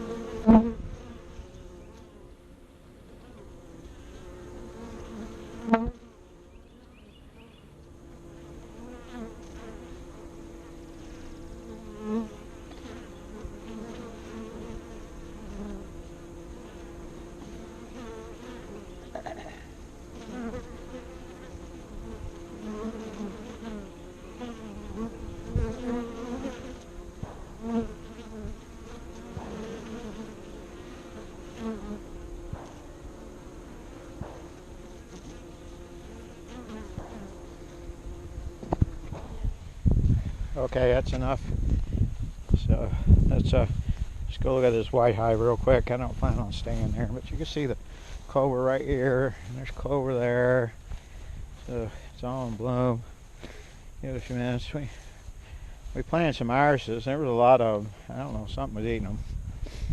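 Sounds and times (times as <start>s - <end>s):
honeybees buzzing: 0.0s - 59.9s.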